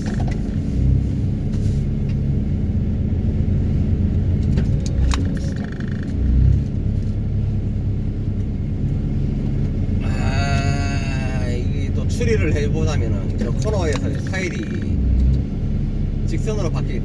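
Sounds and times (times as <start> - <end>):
hydraulic vibro hammer and engine drone: 0.0 - 17.0.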